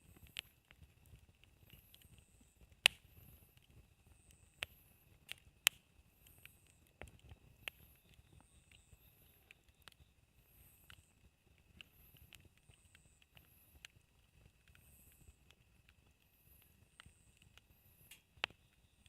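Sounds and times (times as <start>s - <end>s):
campfire wood crackling and popping: 0.0s - 19.0s.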